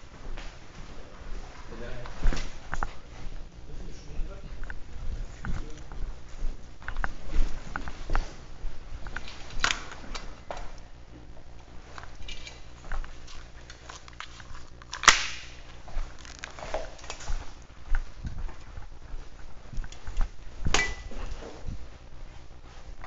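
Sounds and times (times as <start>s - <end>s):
light footsteps: 0.0s - 23.0s.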